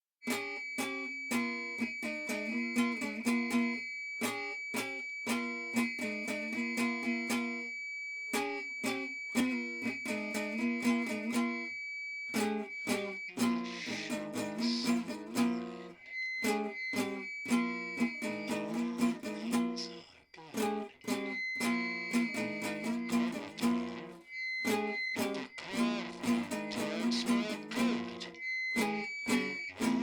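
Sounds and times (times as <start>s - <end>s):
high held tone: 0.2s - 30.0s
plucked string instrument: 0.3s - 7.5s, 8.4s - 11.6s, 12.4s - 30.0s.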